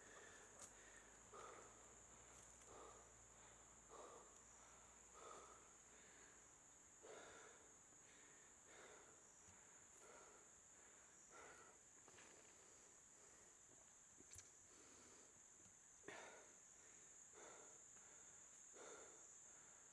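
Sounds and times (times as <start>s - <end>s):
crickets chirring: 0.0s - 19.9s.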